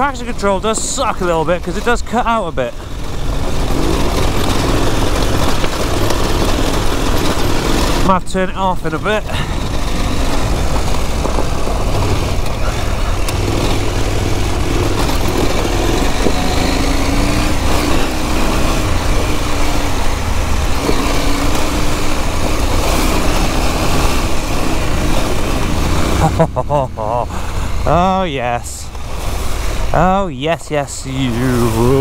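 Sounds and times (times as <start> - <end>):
motorcycle engine revving: 0.0 - 30.3, 31.0 - 32.0.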